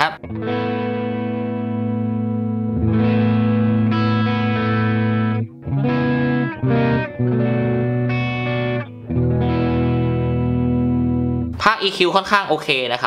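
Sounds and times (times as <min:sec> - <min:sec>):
electric guitar strumming chords: 0:00.2 - 0:11.6.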